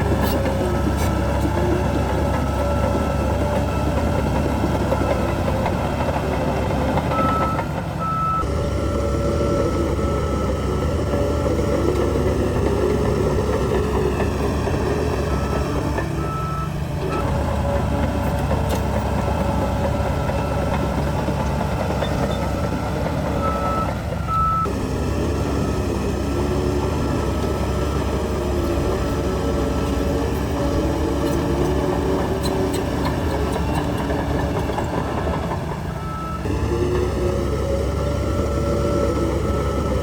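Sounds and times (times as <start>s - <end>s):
heavy diesel machinery running: 0.0s - 40.0s.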